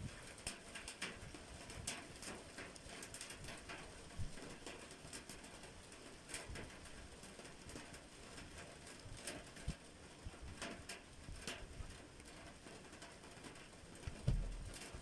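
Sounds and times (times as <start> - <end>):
faint rain hiss: 0.0 - 15.0
raindrops tapping: 0.0 - 15.0.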